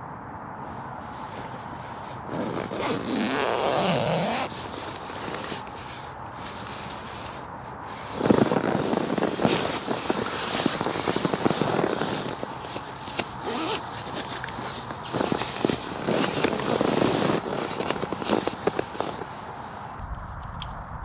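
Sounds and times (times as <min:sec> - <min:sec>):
nylon sleeping bag rustling: 0:01.1 - 0:20.0.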